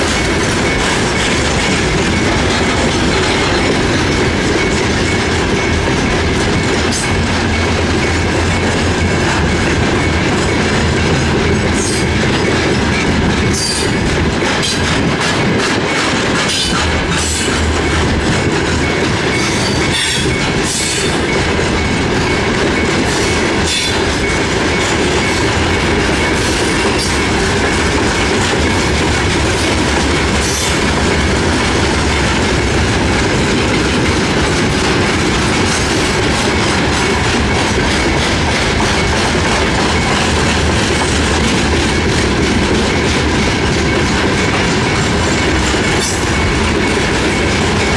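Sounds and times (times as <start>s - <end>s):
freight train wheels rumbling: 0.0s - 47.9s
wheels clacking over rail joints: 0.0s - 47.9s.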